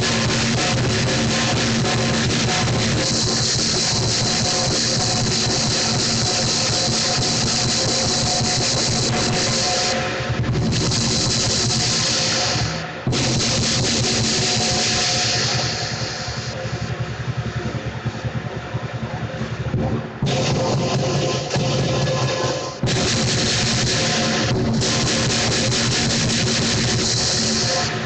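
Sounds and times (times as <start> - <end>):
cymbals clashing: 0.0 - 28.0
large drum beaten rapidly: 0.0 - 28.0.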